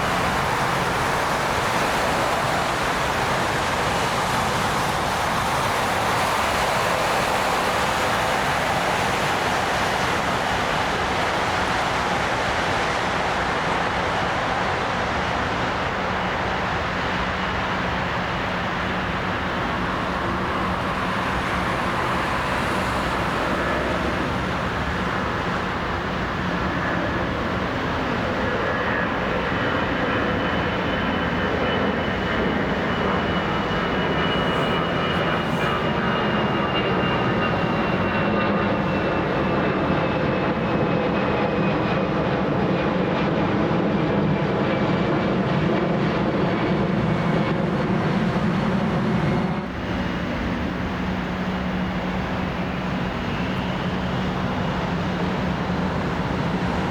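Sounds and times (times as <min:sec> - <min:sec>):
airliner engines rumbling: 0:00.0 - 0:56.9
high jet whine: 0:00.0 - 0:56.9.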